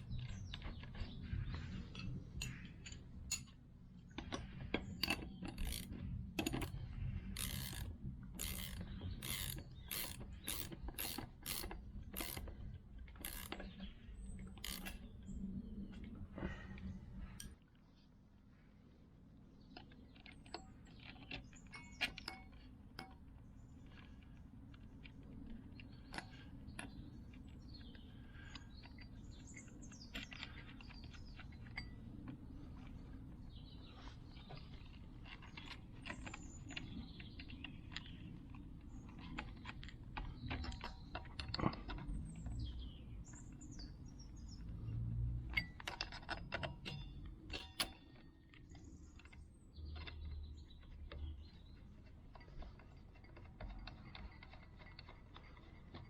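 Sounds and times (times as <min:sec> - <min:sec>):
metallic clicks of tools: 0:00.0 - 0:15.4, 0:16.8 - 0:17.6, 0:19.7 - 0:33.0, 0:34.4 - 0:56.0.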